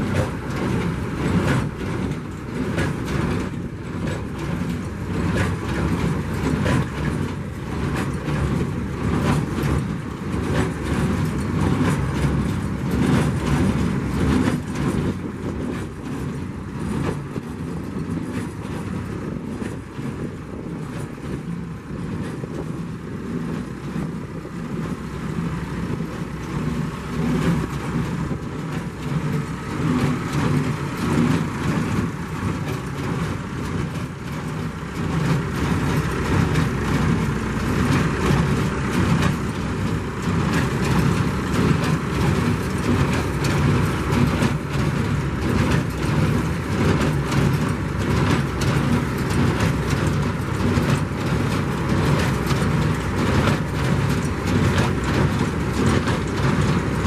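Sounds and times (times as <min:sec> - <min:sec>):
baler mechanical clatter: 0:00.0 - 0:57.0
tractor engine running: 0:00.0 - 0:57.0.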